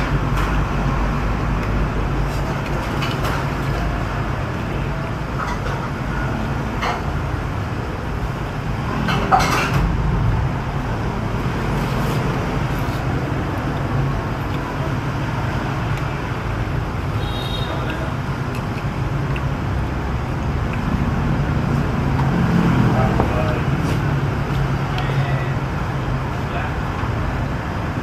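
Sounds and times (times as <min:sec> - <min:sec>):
road traffic with low hum: 0:00.0 - 0:28.0.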